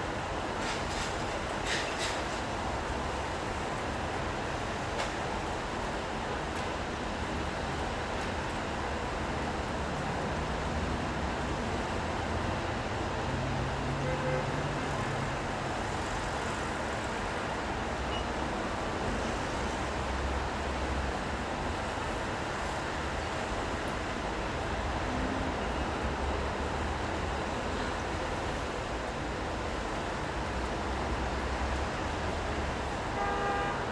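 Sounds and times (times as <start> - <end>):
rain hiss on wet road: 0.0 - 33.9.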